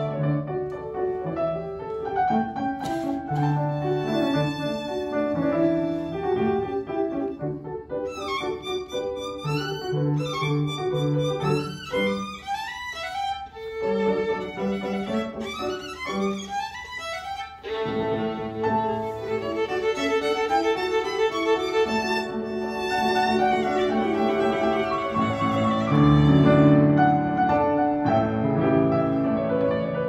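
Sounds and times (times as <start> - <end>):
grand piano accompaniment: 0.0 - 30.0
solo violin: 0.0 - 30.0.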